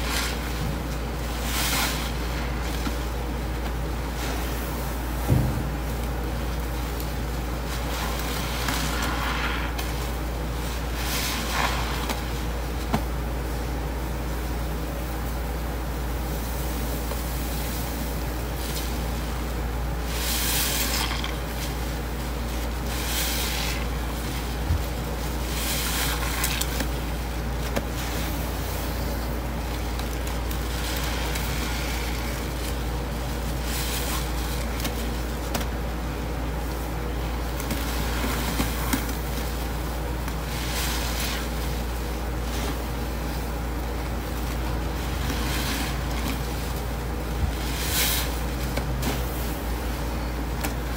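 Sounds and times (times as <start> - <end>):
wet squishing of sponges: 0.0 - 14.7, 16.8 - 50.9
steady low hum: 0.0 - 50.9.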